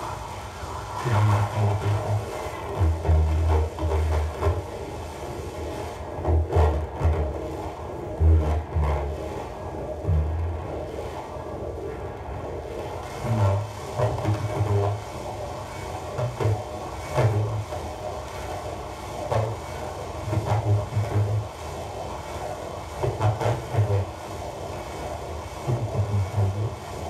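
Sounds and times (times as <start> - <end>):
steady rumbling noise: 0.0 - 27.0
low pulsing thumps: 1.0 - 27.0.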